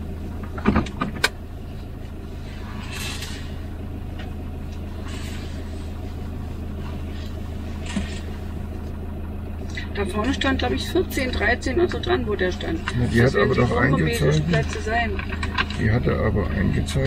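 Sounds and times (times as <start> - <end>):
motorhome engine idling: 0.0 - 17.0.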